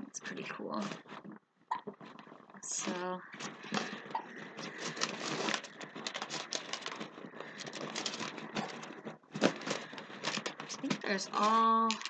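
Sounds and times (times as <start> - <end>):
fabric and plastic rustling: 0.0 - 12.0.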